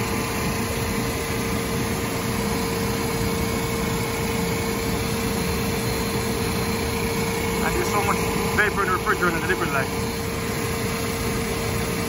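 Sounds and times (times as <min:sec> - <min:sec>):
air conditioning unit humming: 0:00.0 - 0:12.0.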